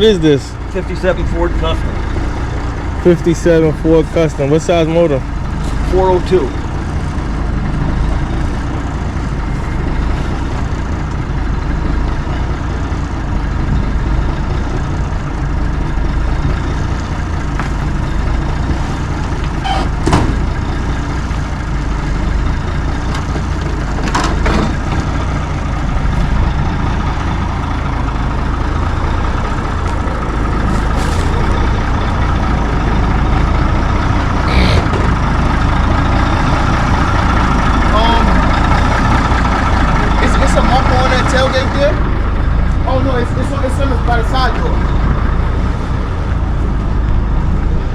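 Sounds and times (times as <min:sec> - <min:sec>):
heavy truck engine idling: 0:00.0 - 0:47.9.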